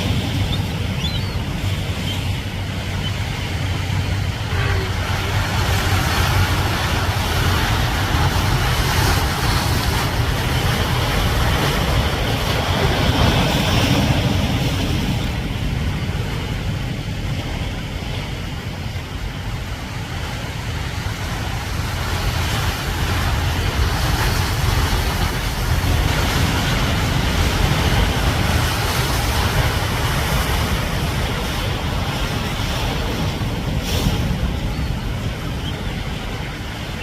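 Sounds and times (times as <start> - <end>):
surf breaking on rocks: 0.0 - 37.0
wind buffeting microphone: 0.0 - 37.0.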